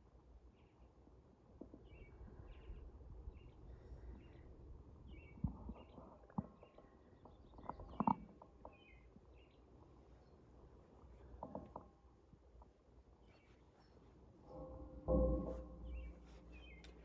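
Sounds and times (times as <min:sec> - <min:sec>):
birds chirping faintly: 0:00.0 - 0:17.0
outdoor background noise: 0:00.0 - 0:17.0.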